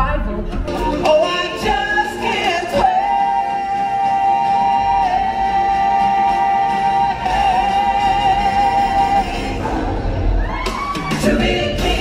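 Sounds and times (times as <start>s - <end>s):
stage show music: 0.0s - 12.0s.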